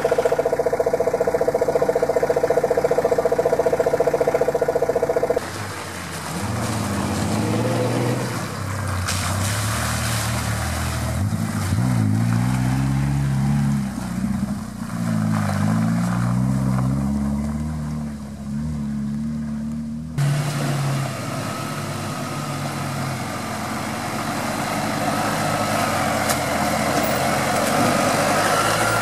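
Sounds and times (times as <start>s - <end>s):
engine revving: 0.0s - 29.0s.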